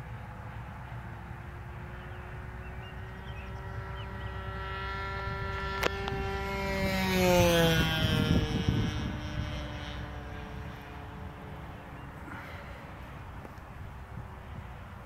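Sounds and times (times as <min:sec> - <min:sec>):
model airplane engine: 0:00.0 - 0:15.0
wind rumble: 0:00.0 - 0:15.0.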